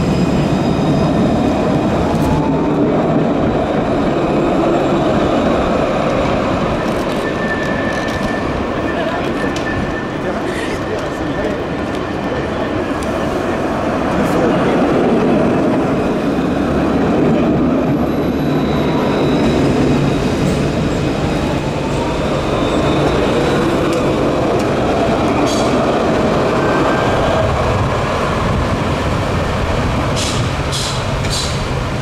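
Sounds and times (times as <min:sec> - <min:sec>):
tram wheels rumbling on rail: 0:00.0 - 0:32.0.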